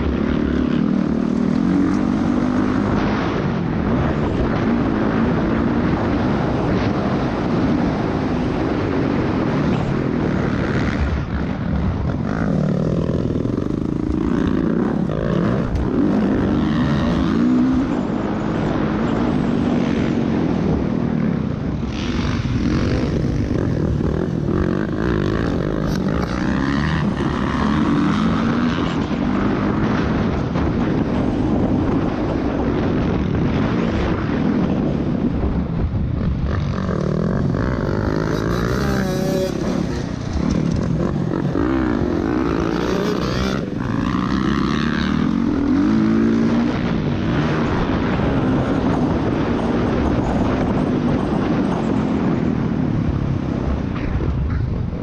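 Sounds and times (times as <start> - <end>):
dirt bike engine revving: 0.0 - 35.0, 36.1 - 53.8.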